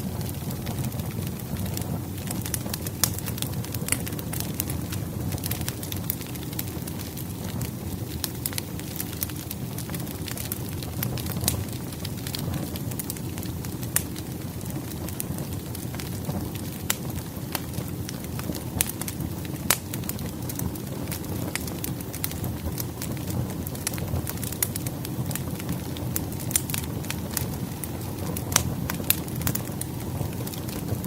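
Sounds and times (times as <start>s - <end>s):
firewood crackling: 0.0s - 31.0s.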